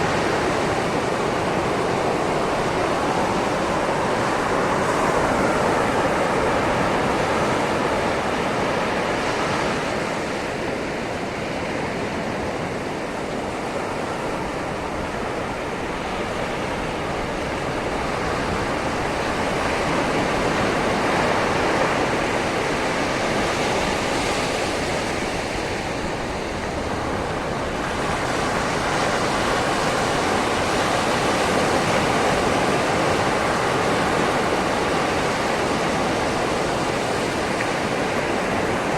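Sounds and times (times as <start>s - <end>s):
sea waves washing onto shore: 0.0s - 38.9s.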